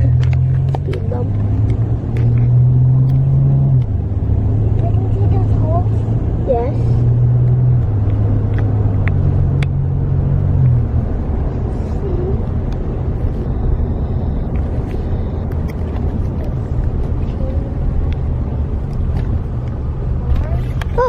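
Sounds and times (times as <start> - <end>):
car engine hum: 0.0 - 21.0
road rumble: 0.0 - 21.0.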